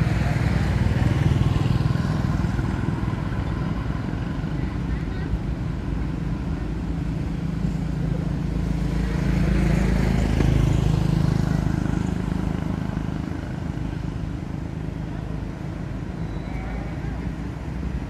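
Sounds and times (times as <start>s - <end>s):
traffic hum: 0.0s - 18.0s.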